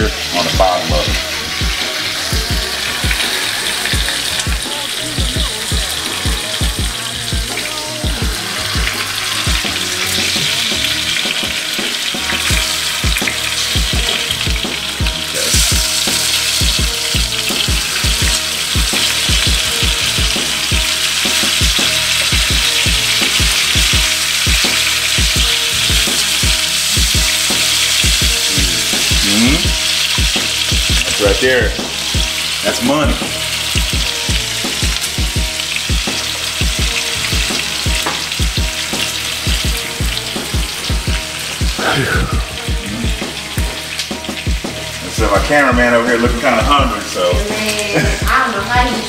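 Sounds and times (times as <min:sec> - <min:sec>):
meat sizzling in oil: 0:00.0 - 0:49.0.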